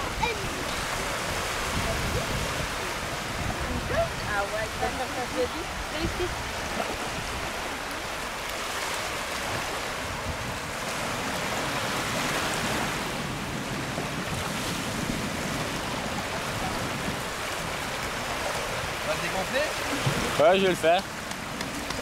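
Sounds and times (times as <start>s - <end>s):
sea waves washing onto beach: 0.0s - 22.0s
wind buffeting microphone: 0.0s - 22.0s.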